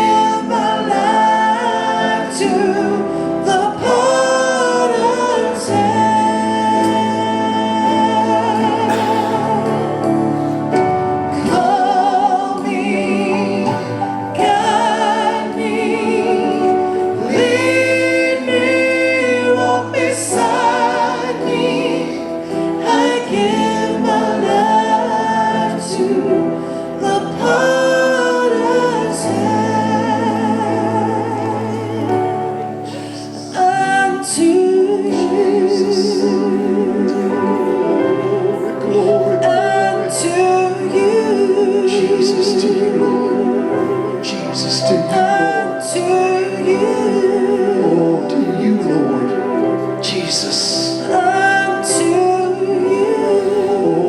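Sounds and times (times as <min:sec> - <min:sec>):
gospel singers with band: 0:00.0 - 0:54.0.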